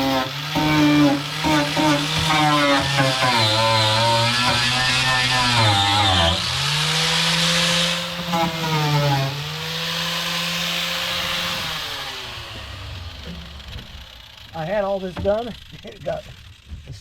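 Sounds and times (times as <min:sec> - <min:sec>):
electric power tool motor running: 0:00.0 - 0:17.0.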